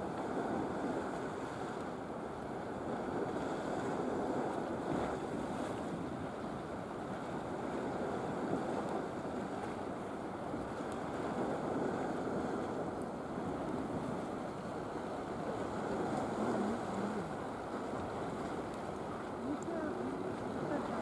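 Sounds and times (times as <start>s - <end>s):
choppy sea water: 0.0s - 21.0s
wind noise on microphone: 0.0s - 21.0s.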